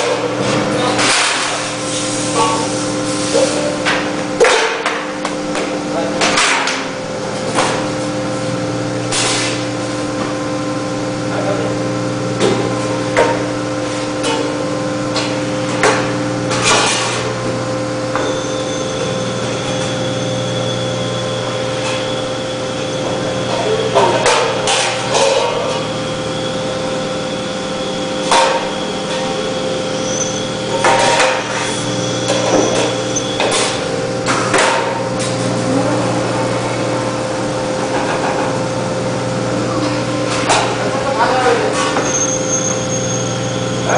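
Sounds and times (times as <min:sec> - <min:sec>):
metal cutting machine humming: 0:00.0 - 0:43.9.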